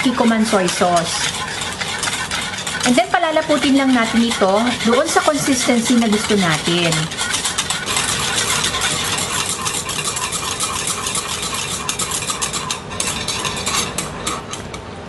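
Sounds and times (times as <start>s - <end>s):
whisk scraping a saucepan: 0.0s - 15.0s.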